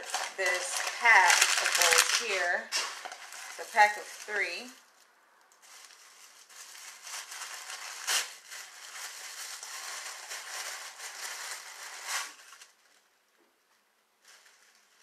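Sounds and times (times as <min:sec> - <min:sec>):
packaging crinkling and rustling: 0:00.0 - 0:13.2, 0:14.2 - 0:15.0.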